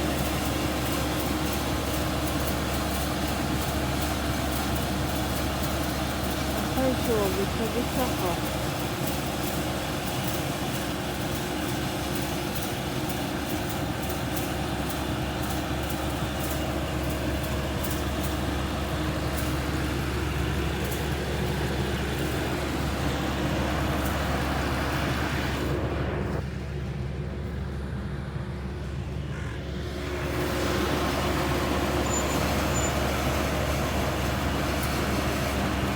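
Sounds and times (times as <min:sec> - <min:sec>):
combine harvester engine drone: 0:00.0 - 0:35.9
rushing rattling mechanical noise: 0:00.0 - 0:35.9.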